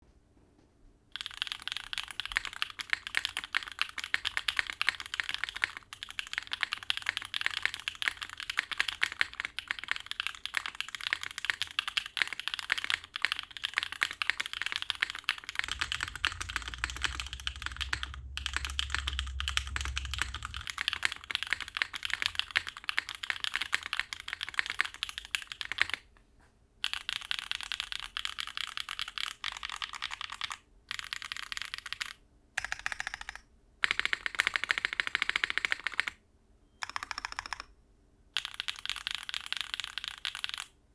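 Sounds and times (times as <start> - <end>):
fast typing on mechanical keyboard: 1.1 - 26.1, 26.8 - 36.2, 36.8 - 37.7, 38.4 - 40.8.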